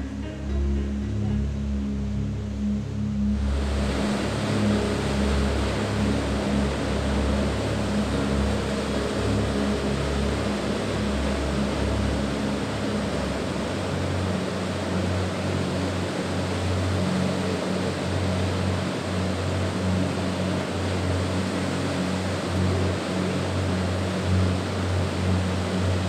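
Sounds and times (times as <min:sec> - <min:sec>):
distant waterfall roar: 0:00.0 - 0:26.0.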